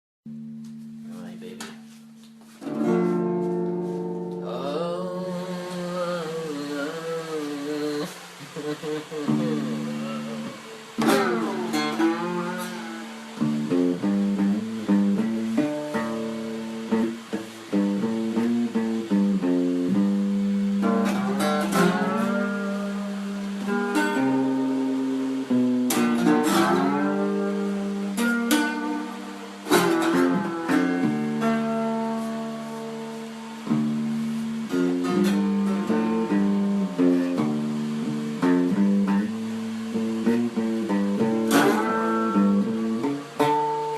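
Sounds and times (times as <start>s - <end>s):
guitar picking a melody: 0.3s - 43.9s
guitar slides: 0.6s - 43.9s.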